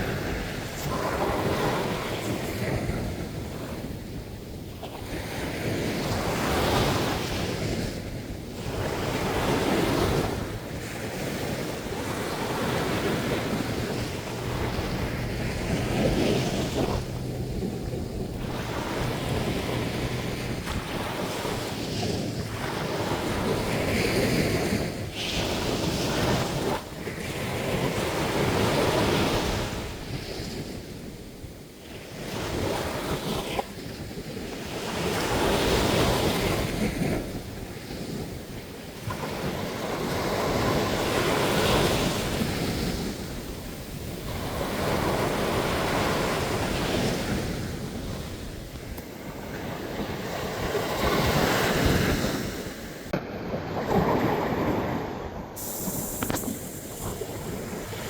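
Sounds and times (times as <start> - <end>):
waves breaking on beach: 0.0 - 58.0
wind buffeting microphone: 0.0 - 58.0.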